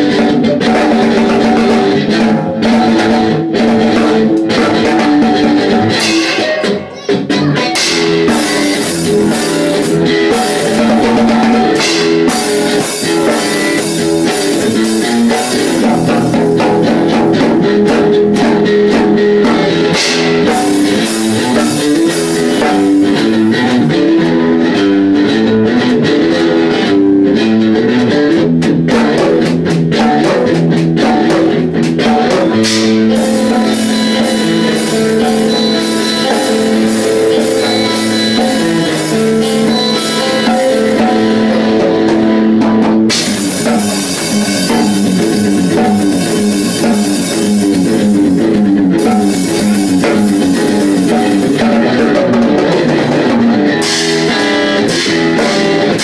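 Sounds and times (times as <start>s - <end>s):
drum kit: 0.0s - 56.0s
rock guitar: 0.0s - 56.0s.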